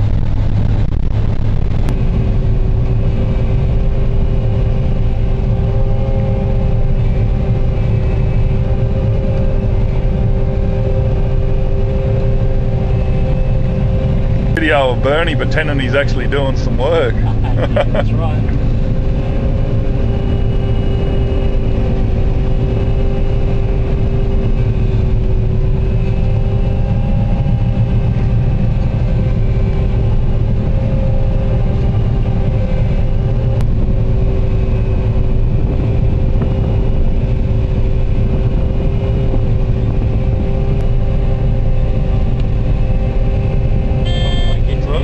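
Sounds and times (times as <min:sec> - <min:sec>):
combine harvester engine rumble: 0:00.0 - 0:45.0
machine humming tones: 0:01.8 - 0:45.0.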